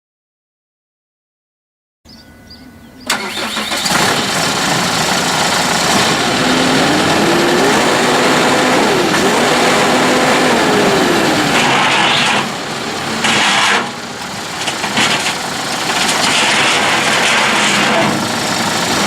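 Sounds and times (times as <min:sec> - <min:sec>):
whining tone: 0:02.5 - 0:19.0
tractor diesel engine starting: 0:02.8 - 0:19.0.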